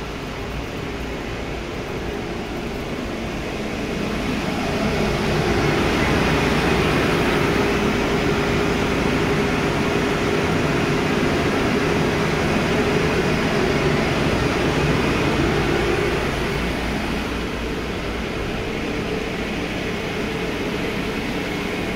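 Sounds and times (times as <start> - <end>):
engine-room machinery drone: 0.0 - 21.9.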